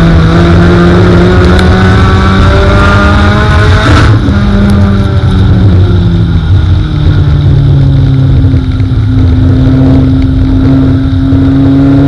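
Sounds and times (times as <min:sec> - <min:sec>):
race car engine: 0:00.0 - 0:12.0.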